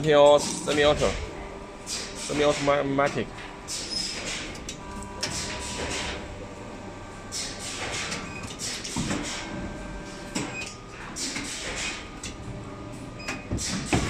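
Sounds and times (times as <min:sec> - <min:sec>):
machine motor humming: 0:00.0 - 0:13.2.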